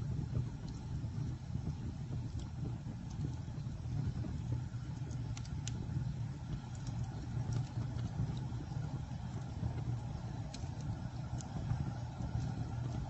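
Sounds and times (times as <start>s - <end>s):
campfire flames roaring: 0.0s - 13.0s
fire crackles: 0.0s - 13.0s.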